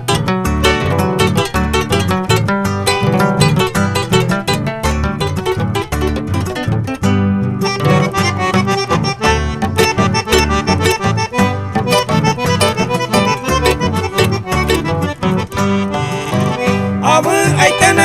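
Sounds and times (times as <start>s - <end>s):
pulsing bass line: 0.0s - 17.0s
accordion melody: 0.0s - 18.0s
guitar: 0.0s - 18.0s.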